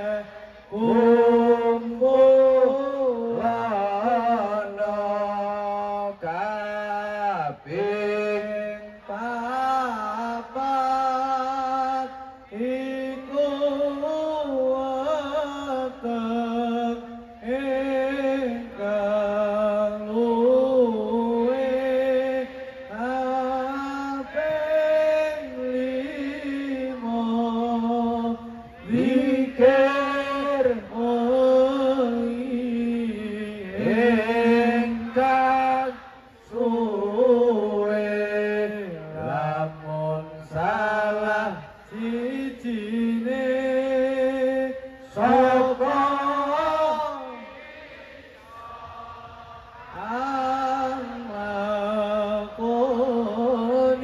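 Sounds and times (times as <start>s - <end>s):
man chanting through loudspeaker: 0.0s - 47.9s, 49.9s - 54.0s.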